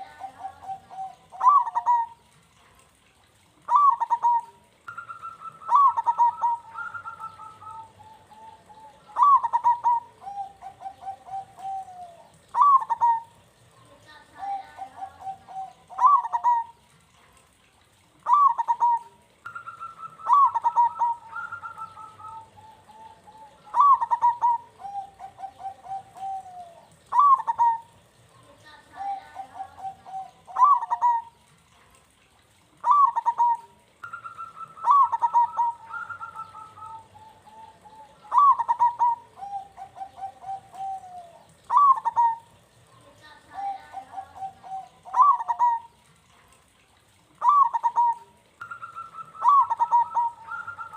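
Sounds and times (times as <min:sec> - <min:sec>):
dove cooing: 0:00.0 - 0:03.0, 0:03.6 - 0:17.5, 0:18.2 - 0:31.7, 0:32.7 - 0:46.3, 0:47.2 - 0:50.9.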